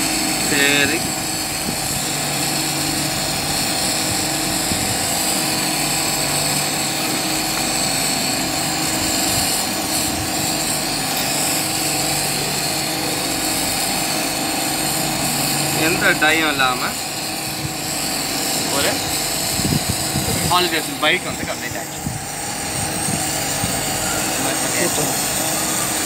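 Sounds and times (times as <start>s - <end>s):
mechanical hum: 0.0s - 26.0s
torch hissing: 0.0s - 26.0s.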